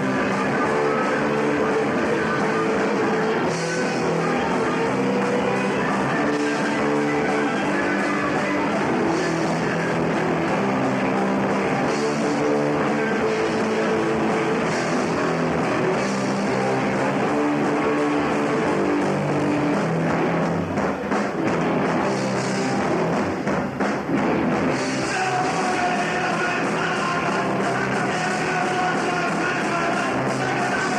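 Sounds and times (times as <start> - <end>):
punk rock band playing live: 0.0 - 30.9.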